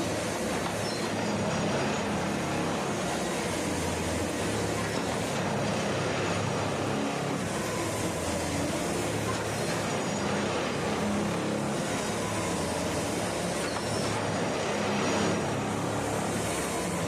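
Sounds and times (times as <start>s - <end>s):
tamping machine engine drone: 0.0s - 17.0s.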